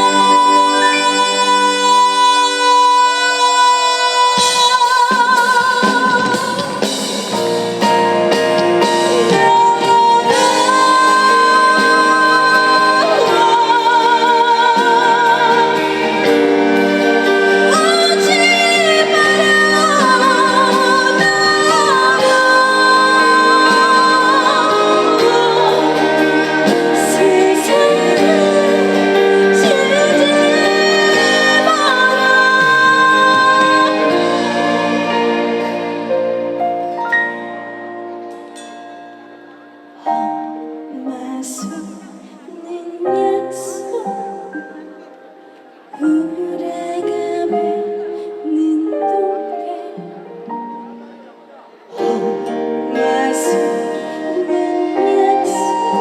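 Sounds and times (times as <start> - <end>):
woman singing with vibrato: 0.0 - 36.6, 40.0 - 50.9, 51.9 - 56.0
instrumental accompaniment: 0.0 - 56.0.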